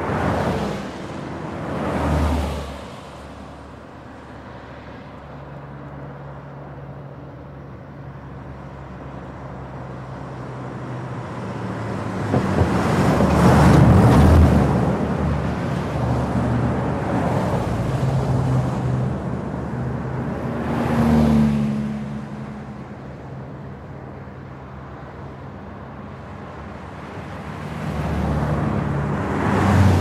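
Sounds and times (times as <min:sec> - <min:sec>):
vehicles passing at speed: 0:00.0 - 0:30.0.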